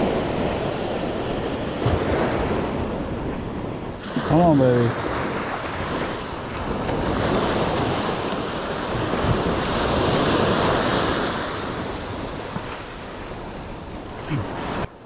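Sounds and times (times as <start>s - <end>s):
small surf waves breaking on sand: 0.0s - 15.0s.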